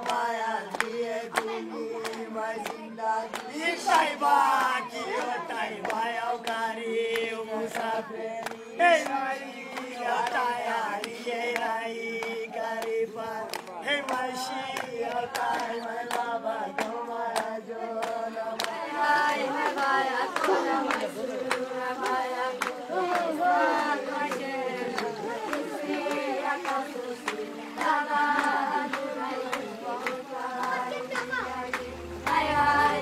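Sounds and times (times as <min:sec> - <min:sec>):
group singing a chant: 0:00.0 - 0:33.0
handclapping: 0:00.0 - 0:33.0.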